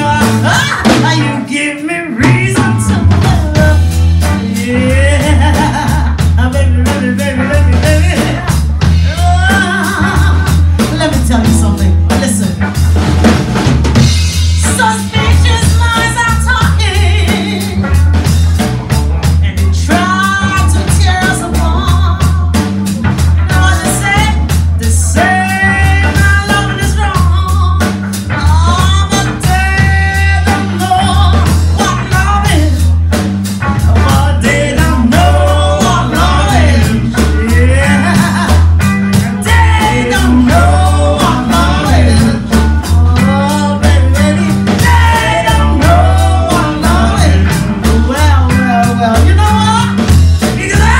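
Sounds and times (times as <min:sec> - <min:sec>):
woman singing: 0:00.0 - 0:12.6, 0:14.5 - 0:18.0, 0:19.6 - 0:22.7, 0:23.5 - 0:32.9, 0:33.8 - 0:50.9
live band playing: 0:00.0 - 0:50.9.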